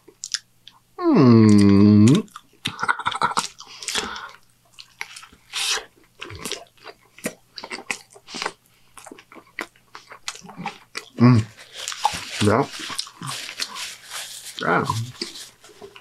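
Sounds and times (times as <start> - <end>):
person chewing crunchy food: 0.0 - 0.8, 1.5 - 16.0.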